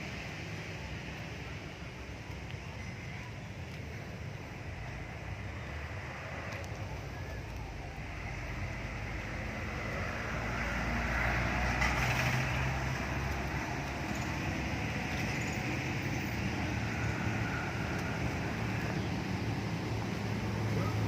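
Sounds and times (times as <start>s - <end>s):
low engine rumble: 0.0s - 21.0s
outdoor background noise: 0.0s - 21.0s.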